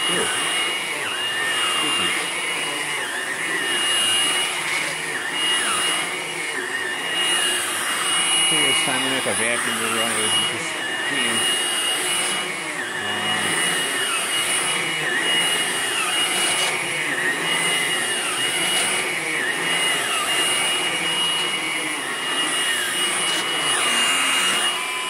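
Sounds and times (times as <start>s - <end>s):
vacuum cleaner on carpet: 0.0s - 25.0s.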